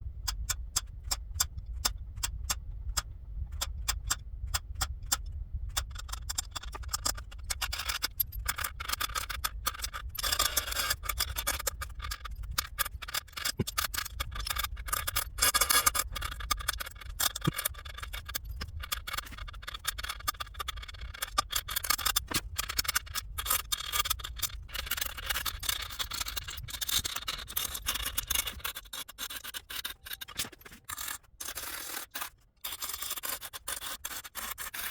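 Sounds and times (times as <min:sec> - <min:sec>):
low steady hum: 0:00.0 - 0:29.0
scraping and rubbing strokes: 0:05.7 - 0:34.9.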